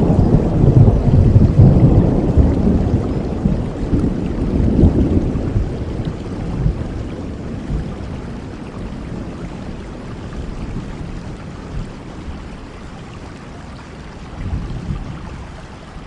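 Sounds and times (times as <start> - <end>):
thunder rumbling: 0.0 - 12.8, 14.3 - 15.6
steady rain: 0.0 - 16.0.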